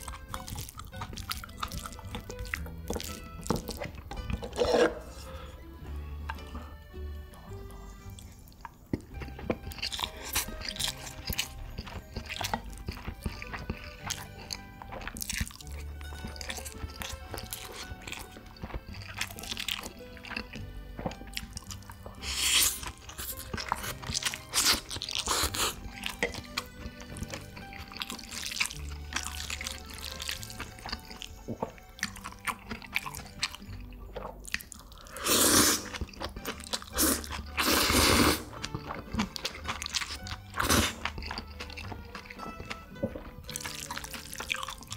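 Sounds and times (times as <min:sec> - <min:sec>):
background music: 0:00.0 - 0:44.9
chewing and crunching food: 0:00.0 - 0:44.9.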